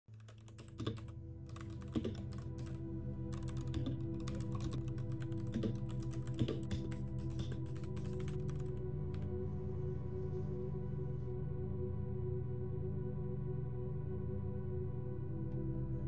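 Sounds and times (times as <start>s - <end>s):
soft ambient music: 0.1s - 16.0s.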